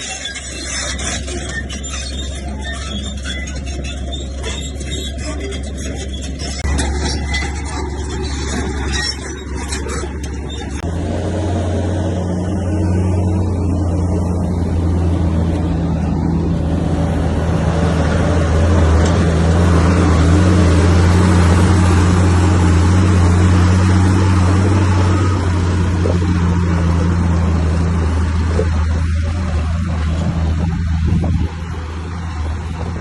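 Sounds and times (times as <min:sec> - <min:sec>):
bulldozer diesel engine droning: 0:00.0 - 0:33.0.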